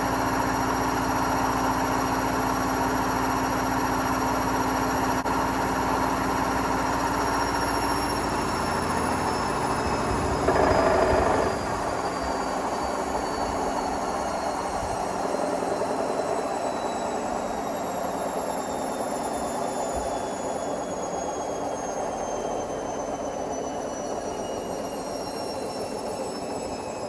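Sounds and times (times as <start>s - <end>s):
washing machine motor whine: 0.0s - 27.0s.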